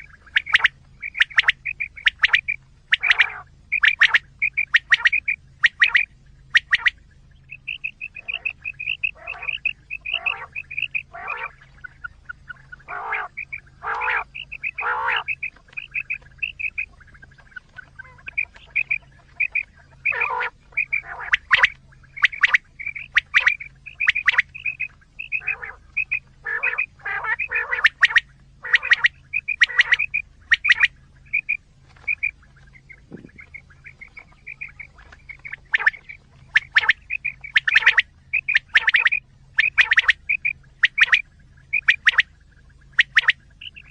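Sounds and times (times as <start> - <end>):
faint low hum: 0.0 - 43.9
quail calls: 0.0 - 43.9.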